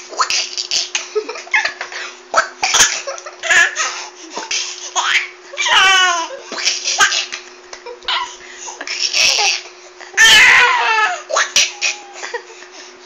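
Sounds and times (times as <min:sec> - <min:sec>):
baby laughing: 0:00.1 - 0:12.4.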